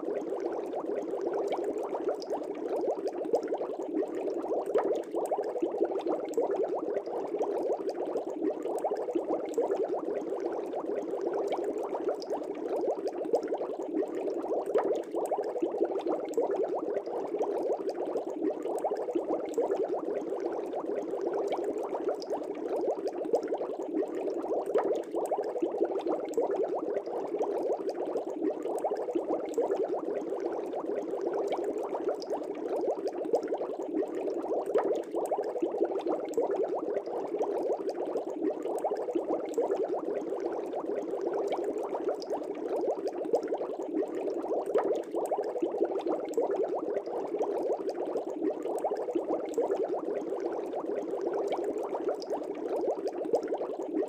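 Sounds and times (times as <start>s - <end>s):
fish tank air bubbles: 0.0s - 54.0s.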